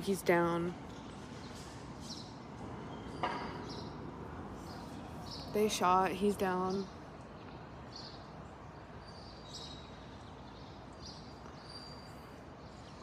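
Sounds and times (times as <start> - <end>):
low street hum: 0.0 - 13.0.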